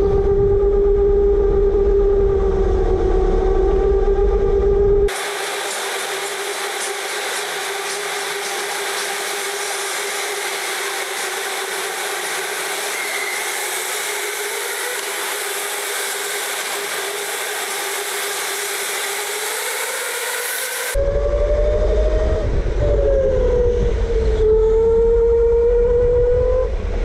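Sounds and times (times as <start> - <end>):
continuous rushing noise: 0.0 - 27.0
electric go-kart whine: 0.0 - 27.0.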